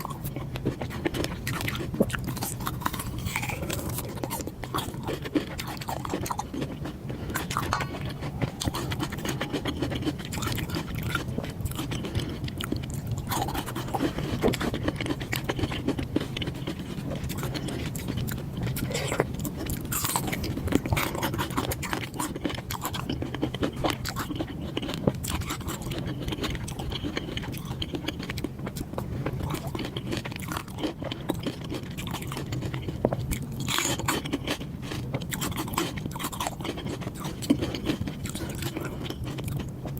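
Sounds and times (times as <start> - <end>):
chewing and biting food: 0.0 - 39.9.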